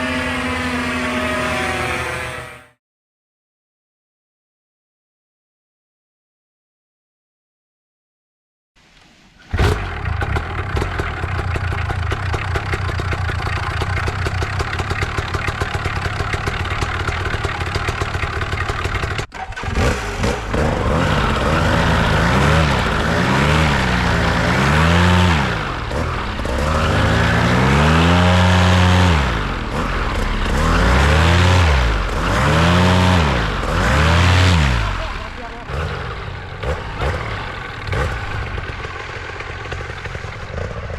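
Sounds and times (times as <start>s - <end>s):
two-stroke engine idling and revving: 0.0s - 2.6s, 9.5s - 40.9s.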